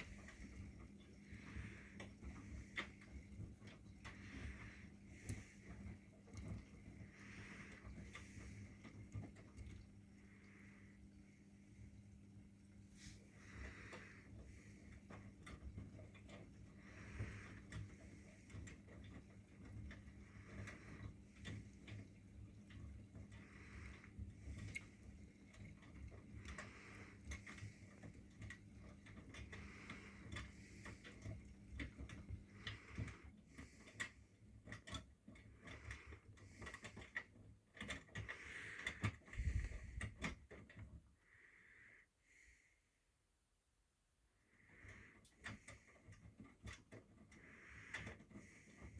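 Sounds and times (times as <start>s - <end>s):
washing machine ticks and knocks: 0.0s - 41.1s, 44.7s - 48.9s
washing machine hum: 0.0s - 48.9s.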